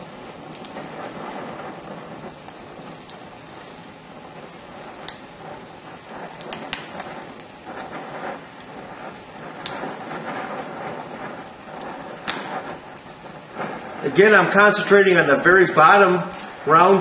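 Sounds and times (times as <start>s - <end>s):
sparks popping and crackling: 0.0s - 17.0s
torch flame hissing: 0.0s - 17.0s.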